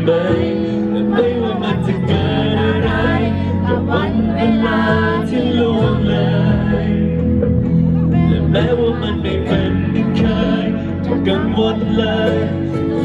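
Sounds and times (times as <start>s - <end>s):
band backing music: 0.0s - 13.0s
man singing pop ballad: 0.0s - 13.0s.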